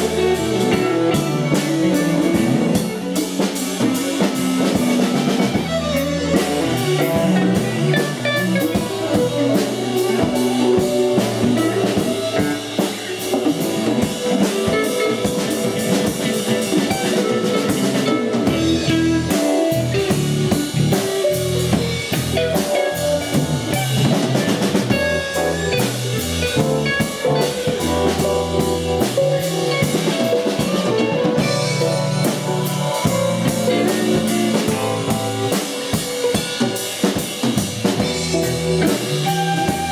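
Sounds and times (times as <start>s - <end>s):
bass line: 0.0s - 36.8s, 37.4s - 39.9s
drum kit beat: 0.0s - 39.9s
electric guitar: 0.0s - 39.9s.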